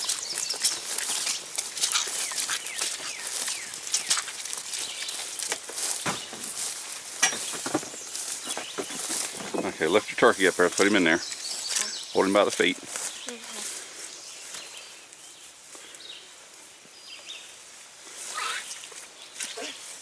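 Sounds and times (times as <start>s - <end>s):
birds chirping faintly: 0.0s - 17.7s
rustling and crunching in dry leaves: 0.0s - 20.0s.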